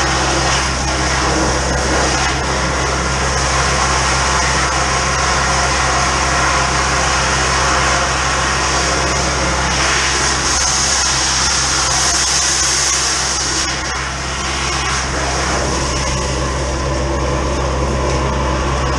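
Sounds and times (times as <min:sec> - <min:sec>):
water jet hissing: 0:00.0 - 0:16.8
engine hum: 0:00.0 - 0:18.9.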